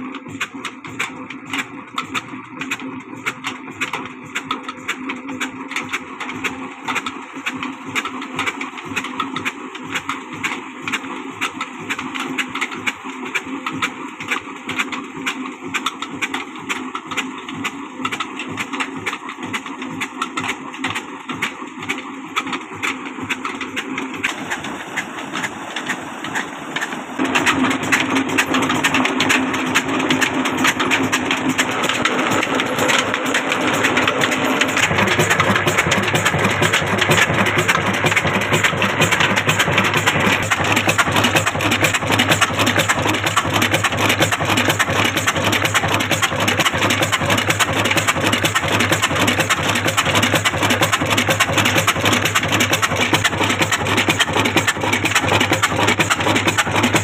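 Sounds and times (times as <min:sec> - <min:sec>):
diesel engine running rhythmically: 0:00.0 - 0:57.0.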